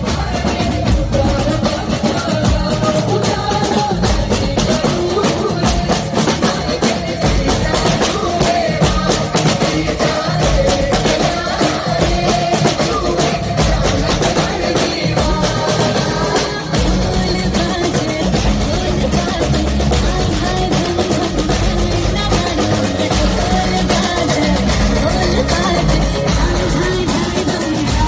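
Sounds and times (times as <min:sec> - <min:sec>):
loud amplified music: 0:00.0 - 0:28.0
marching snare drums: 0:00.0 - 0:28.0.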